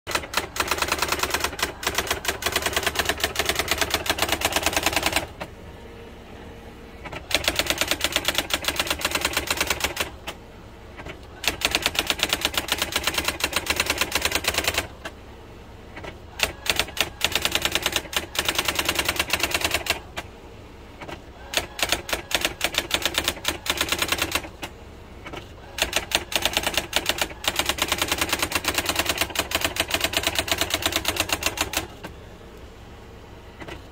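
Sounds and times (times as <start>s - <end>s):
electric typewriter keystrokes: 0.1s - 5.5s, 7.0s - 10.4s, 11.0s - 15.1s, 16.0s - 20.3s, 21.0s - 32.2s
typewriter motor hum: 0.1s - 5.6s, 7.0s - 15.2s, 15.9s - 20.3s, 21.0s - 32.2s.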